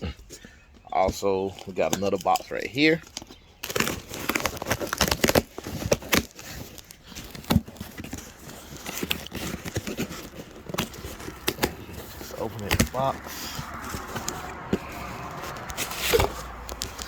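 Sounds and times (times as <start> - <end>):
cardboard box being handled: 3.1 - 17.0.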